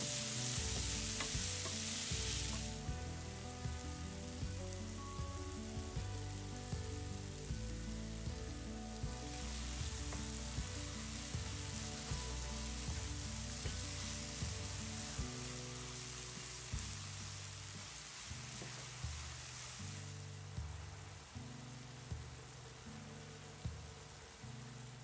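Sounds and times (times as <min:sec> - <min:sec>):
apples sizzling in a frying pan: 0:00.0 - 0:25.0
background music with a beat: 0:00.0 - 0:25.0.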